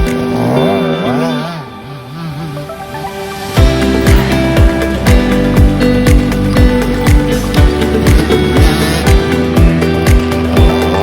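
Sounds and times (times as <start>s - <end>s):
background music with kick drum: 0.0s - 0.8s, 2.7s - 11.0s.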